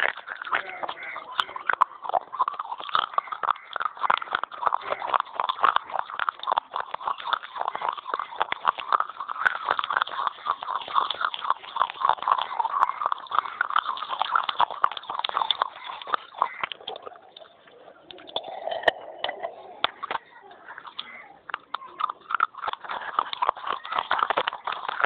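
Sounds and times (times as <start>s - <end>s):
chewing and crunching clay: 0.0s - 25.0s.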